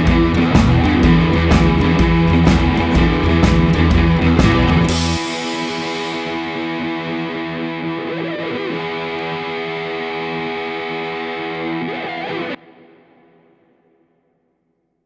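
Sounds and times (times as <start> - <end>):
distorted electric guitar chord: 0.0 - 14.0.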